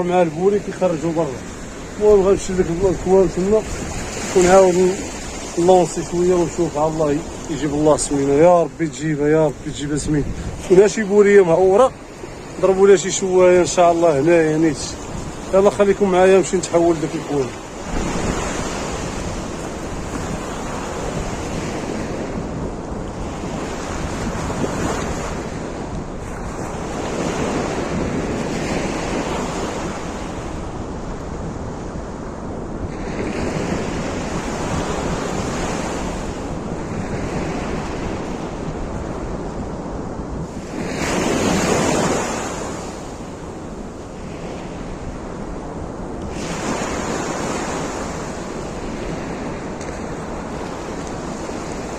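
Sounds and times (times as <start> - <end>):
sea surf on rocky shore: 0.0 - 51.9
wind gusts on microphone: 0.0 - 51.9.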